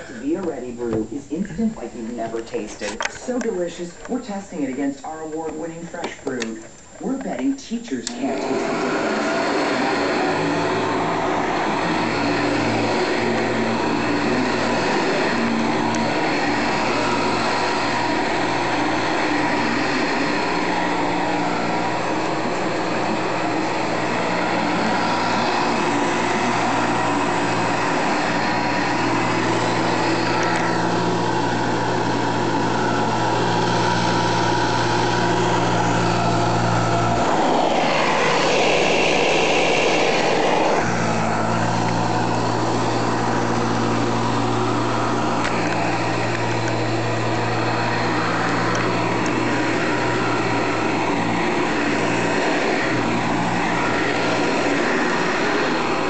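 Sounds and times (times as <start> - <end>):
upright vacuum cleaner running: 0.0 - 56.0.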